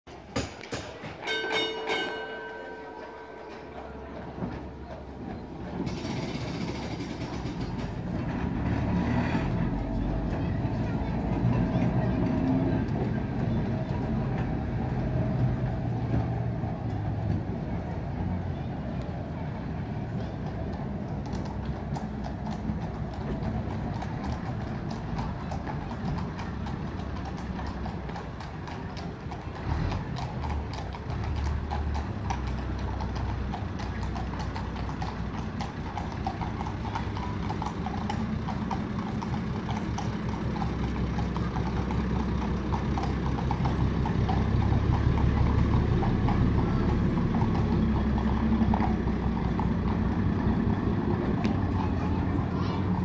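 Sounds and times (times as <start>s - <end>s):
bus engine humming: 0.1s - 53.0s
horse hooves on cobblestones: 0.1s - 53.0s.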